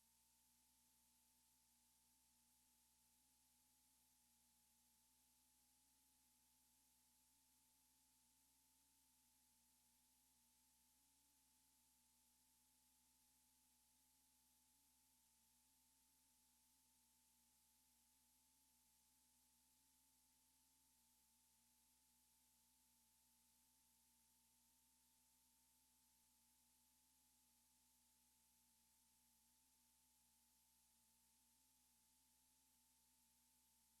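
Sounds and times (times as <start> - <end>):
faint steady hiss: 0.0 - 34.0
faint steady tones: 0.0 - 34.0.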